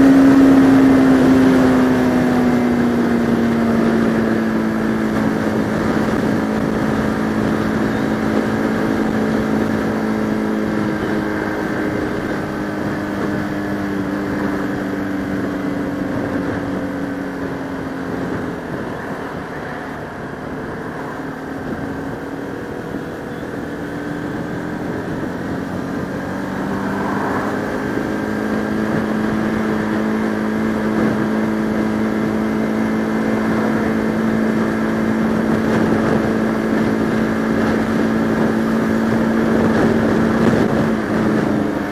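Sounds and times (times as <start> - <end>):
motorcycle engine running: 0.0 - 41.9
wind on microphone: 0.0 - 41.9.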